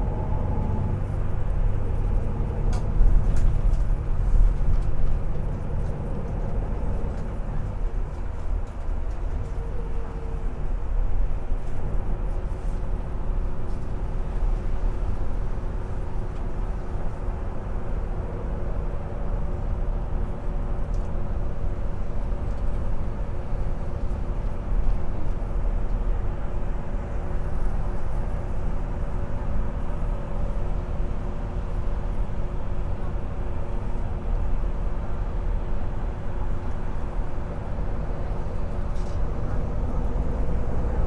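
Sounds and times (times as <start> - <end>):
bus engine drone: 0.0 - 41.0
road rumble: 0.0 - 41.0.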